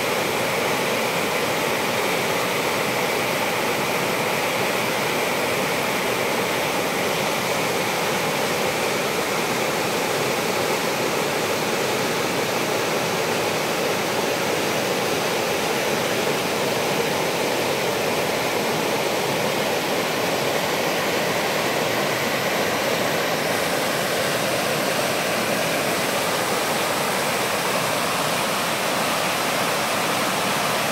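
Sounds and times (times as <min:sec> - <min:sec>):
faint high hiss: 0:00.0 - 0:30.9
water rushing: 0:00.0 - 0:30.9.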